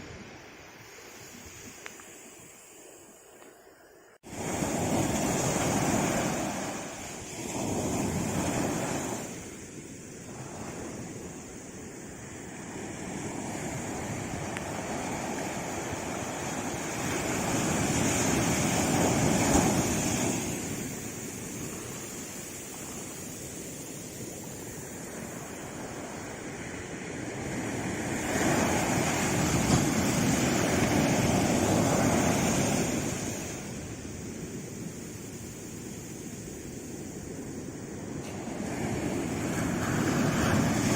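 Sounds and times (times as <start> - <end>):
sea waves breaking: 0.0 - 40.9.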